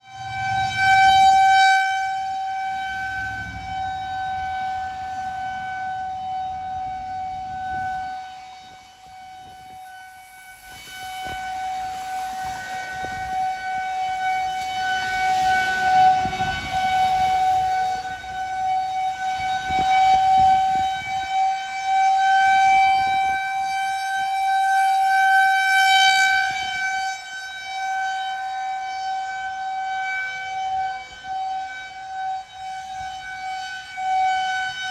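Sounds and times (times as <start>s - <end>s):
warning siren steady tone: 0.0s - 34.9s.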